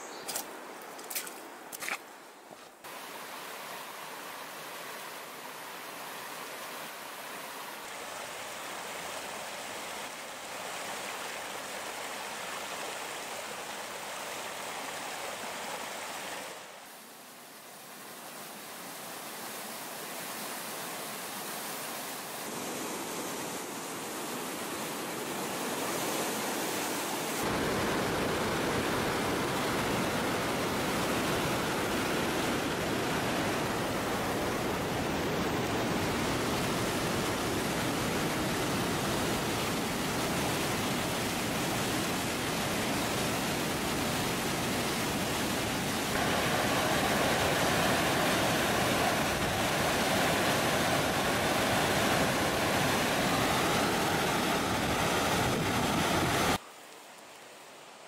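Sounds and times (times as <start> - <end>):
stream rushing over rocks: 2.8 - 58.0.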